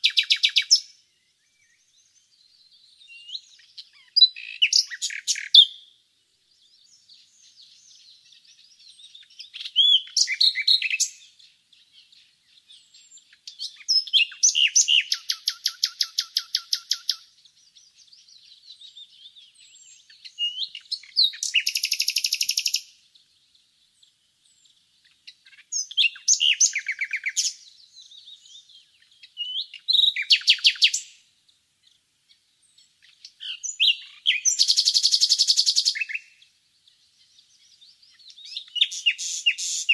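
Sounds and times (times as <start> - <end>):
faint chirping: 0.0 - 39.9
nightingale singing: 0.0 - 39.9.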